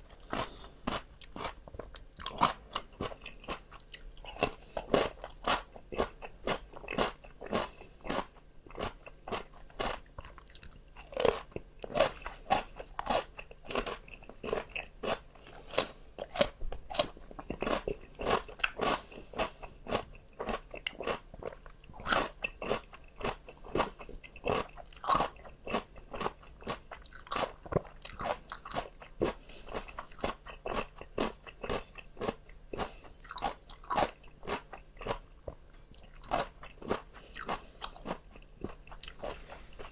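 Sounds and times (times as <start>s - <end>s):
person crunching raw vegetables: 0.0s - 39.9s.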